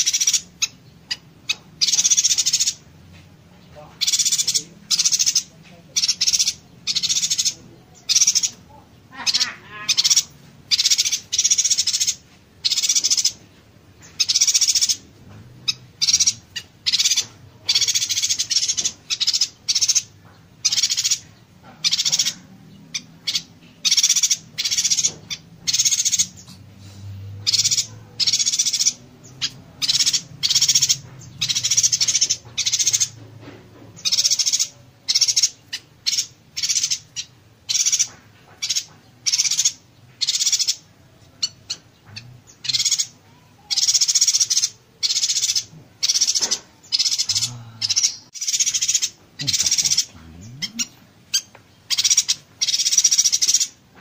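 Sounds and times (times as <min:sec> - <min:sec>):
bird buzzy crackling chatter: 0:04.0 - 0:26.7, 0:27.4 - 0:54.0.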